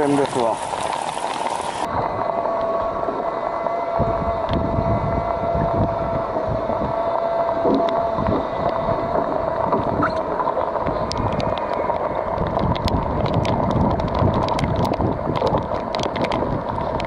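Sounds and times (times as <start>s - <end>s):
bilge pump running: 0.0s - 17.0s
water gushing and splashing: 0.0s - 17.0s
wind on microphone: 0.0s - 17.0s.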